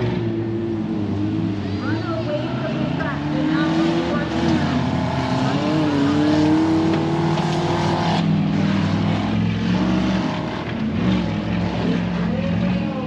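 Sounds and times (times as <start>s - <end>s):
high-pitched truck engine: 0.0s - 13.0s.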